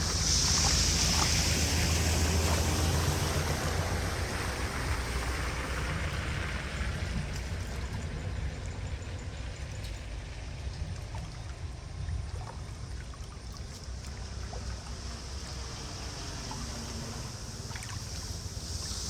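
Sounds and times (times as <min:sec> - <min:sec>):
low rumble: 0:00.0 - 0:19.0
water rushing into storm drain: 0:00.0 - 0:19.0.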